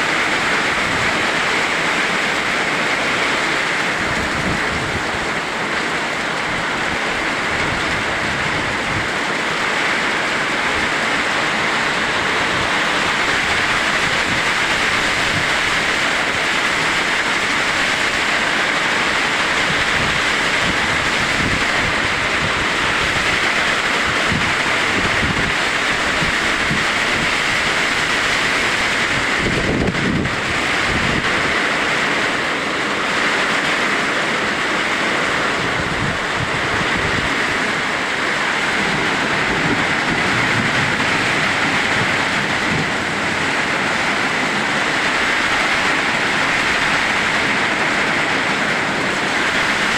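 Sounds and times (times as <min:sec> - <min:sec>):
deep rush of wind: 0:00.0 - 0:49.9
heavy rain pouring: 0:00.0 - 0:49.9.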